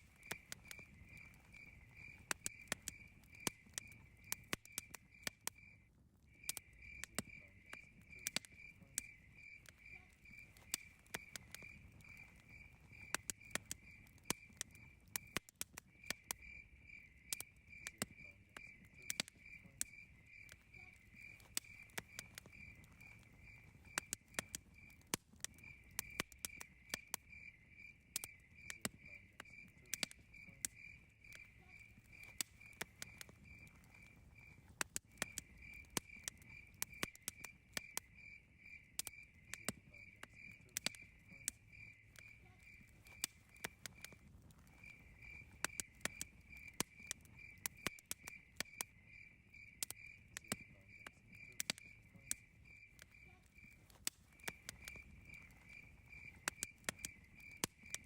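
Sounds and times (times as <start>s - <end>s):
cricket chirping: 0.0s - 58.0s
wood fire crackling: 0.0s - 58.0s.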